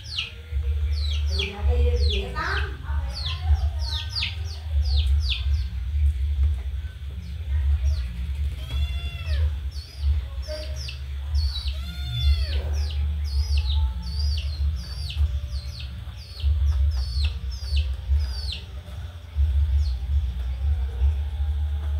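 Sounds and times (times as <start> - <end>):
chicks and ducklings peeping: 0.0 - 21.9
steady low hum: 0.0 - 21.9.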